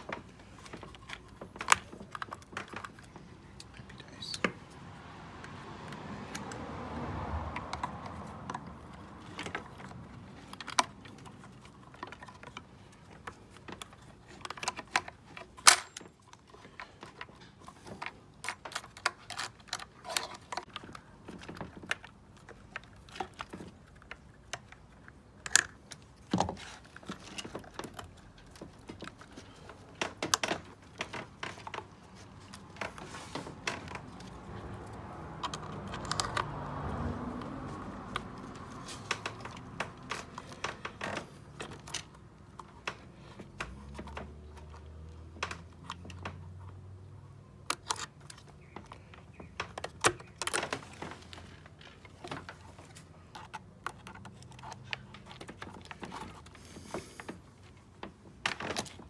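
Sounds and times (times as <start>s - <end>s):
plastic parts clicking and rattling: 0.0s - 4.7s, 7.5s - 59.0s.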